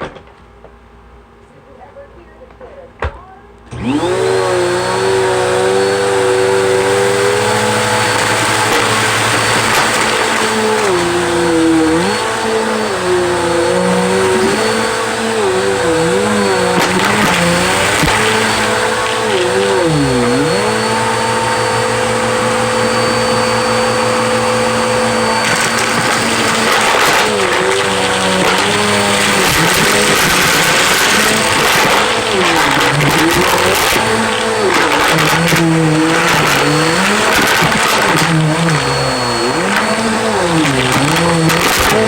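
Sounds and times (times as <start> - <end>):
vacuum cleaner motor whining: 3.6 - 42.0.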